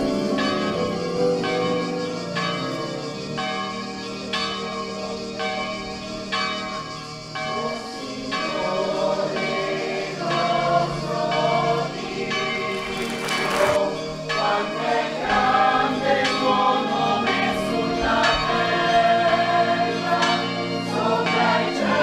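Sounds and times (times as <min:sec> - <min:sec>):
church bells ringing a peal: 0:00.0 - 0:22.0.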